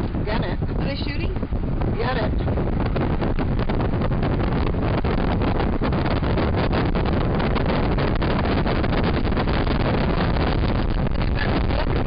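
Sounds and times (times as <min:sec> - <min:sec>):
road noise inside car: 0:00.0 - 0:12.0
wind buffeting microphone: 0:00.0 - 0:12.0.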